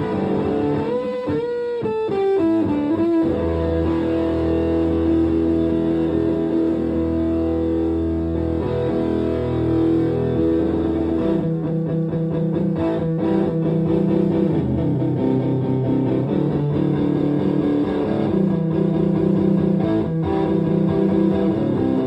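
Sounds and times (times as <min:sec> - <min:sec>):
heavily distorted electric guitar: 0:00.0 - 0:22.0.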